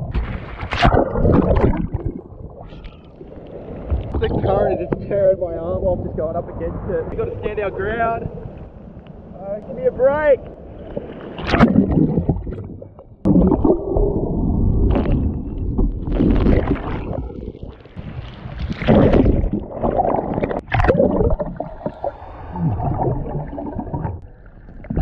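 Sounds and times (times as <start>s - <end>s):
underwater surf rushing and bubbling: 0.0s - 25.0s.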